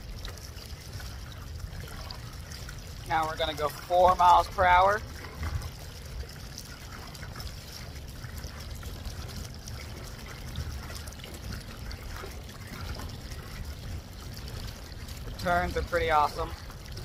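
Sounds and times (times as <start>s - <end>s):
low steady rumble: 0.0s - 17.0s
water lapping along hull: 0.0s - 17.0s.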